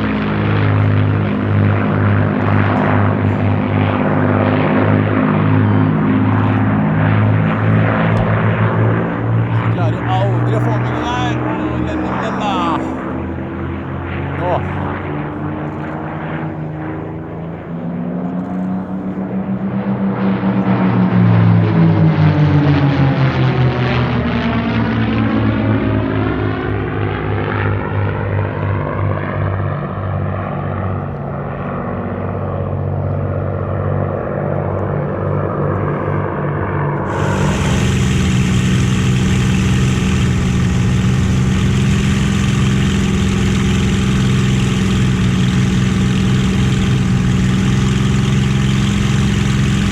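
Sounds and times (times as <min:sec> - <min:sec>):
close engine drone: 0:00.0 - 0:49.9
propeller plane flying past: 0:00.0 - 0:49.9.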